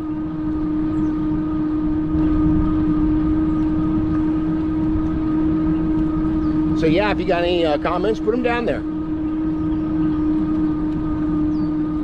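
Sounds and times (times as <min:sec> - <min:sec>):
e-bike drivetrain humming: 0:00.0 - 0:12.0
wind rumble on microphone: 0:00.0 - 0:12.0.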